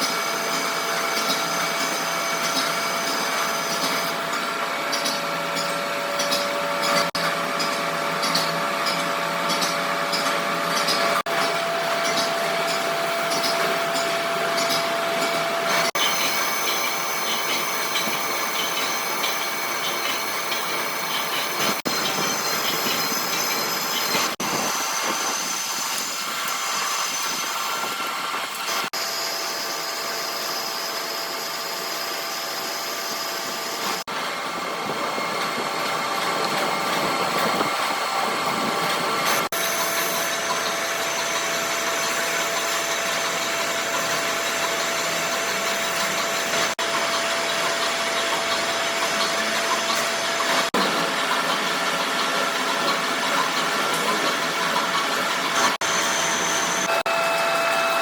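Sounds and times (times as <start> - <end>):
workshop machine whining: 0.0 - 58.0.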